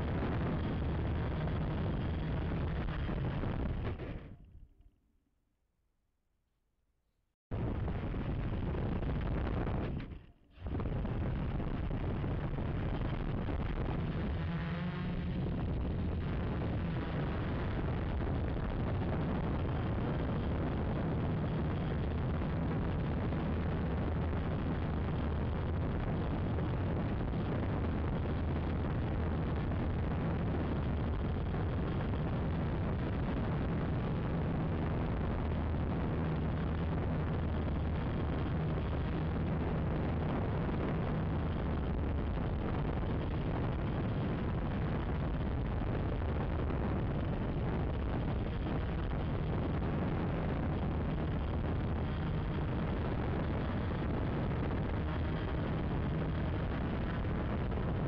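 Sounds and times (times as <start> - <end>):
drone motors droning: 0.0 - 4.5, 7.5 - 58.0
wind noise on microphone: 0.0 - 4.6, 7.5 - 58.0.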